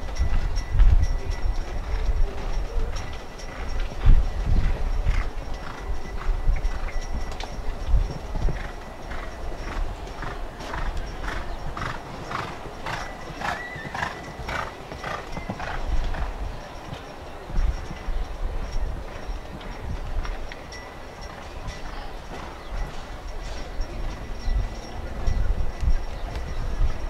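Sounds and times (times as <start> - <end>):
horse breathing: 0.0 - 26.3
horse hoofbeats on sand: 0.0 - 27.0.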